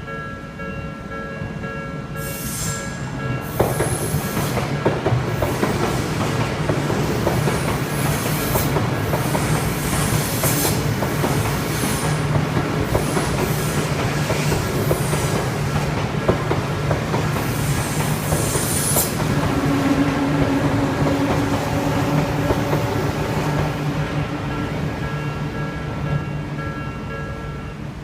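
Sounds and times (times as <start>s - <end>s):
electric train rumbling: 0.0s - 28.0s.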